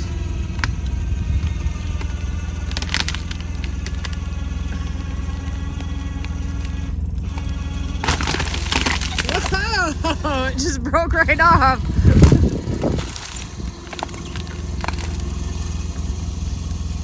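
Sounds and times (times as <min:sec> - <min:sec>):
engine humming: 0:00.0 - 0:17.0
winch whining: 0:00.0 - 0:17.0
wood cracking: 0:00.0 - 0:17.0.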